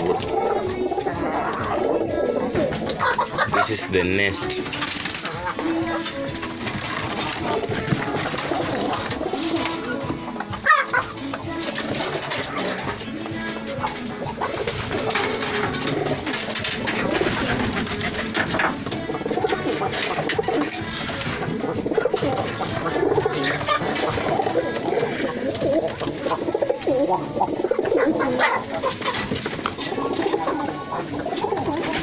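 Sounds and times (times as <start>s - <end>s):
doves cooing: 0.0s - 32.0s.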